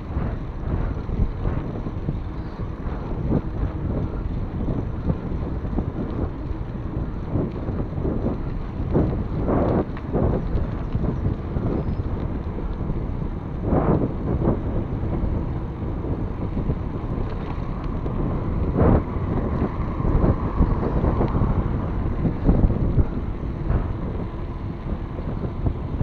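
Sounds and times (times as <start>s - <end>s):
tyres rumbling on asphalt: 0.0s - 26.0s
wind rushing over microphone: 0.0s - 26.0s.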